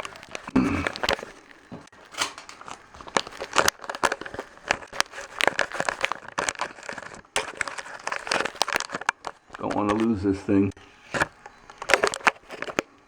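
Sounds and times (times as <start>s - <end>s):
irregular crackling and clicks: 0.0s - 13.0s.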